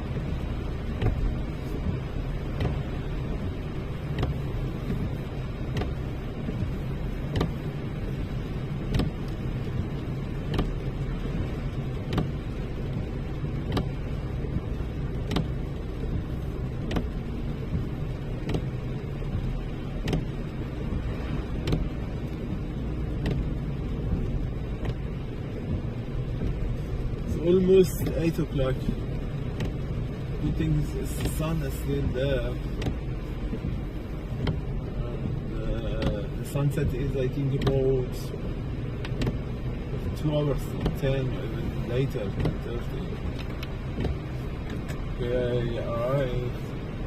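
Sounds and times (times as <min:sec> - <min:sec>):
road and engine rumble: 0:00.0 - 0:47.0.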